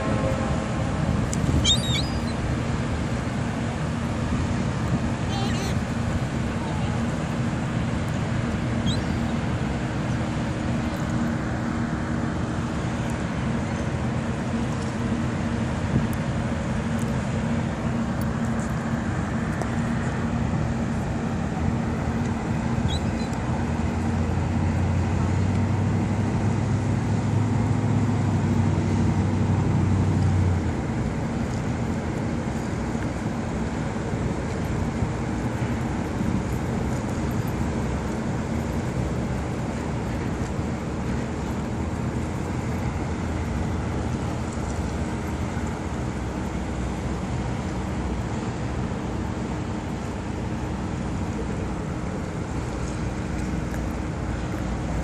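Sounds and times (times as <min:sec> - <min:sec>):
constant rushing noise: 0:00.0 - 0:55.0
low engine drone: 0:00.0 - 0:55.0
wind rumbling on microphone: 0:00.0 - 0:55.0.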